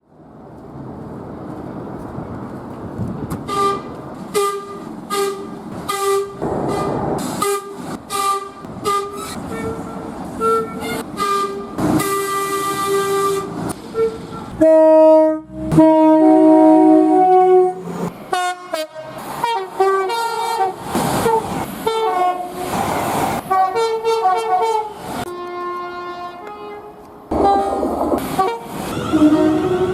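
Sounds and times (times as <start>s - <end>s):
moving train rumble: 0.0s - 29.9s
locomotive air horn blasts: 3.5s - 22.6s, 23.5s - 29.9s.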